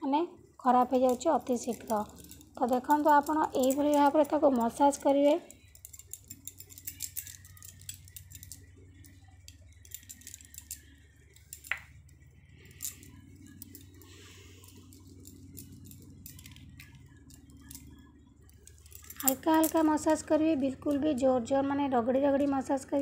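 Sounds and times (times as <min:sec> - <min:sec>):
bangles clinking: 0:00.6 - 0:21.6.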